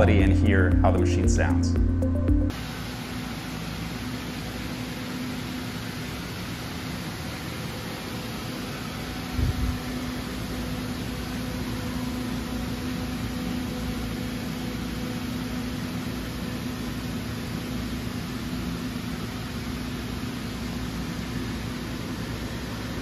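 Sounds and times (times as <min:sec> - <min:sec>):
machining center humming: 0:00.0 - 0:23.0.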